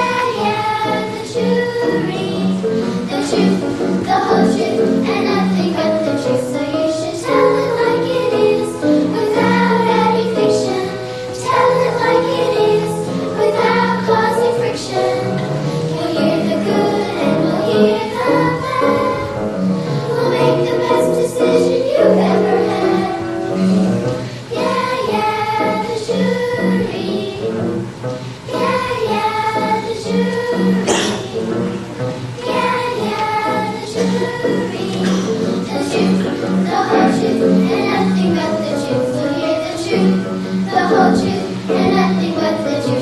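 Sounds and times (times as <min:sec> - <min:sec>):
children's choir singing: 0:00.0 - 0:43.0
musical accompaniment: 0:00.0 - 0:43.0.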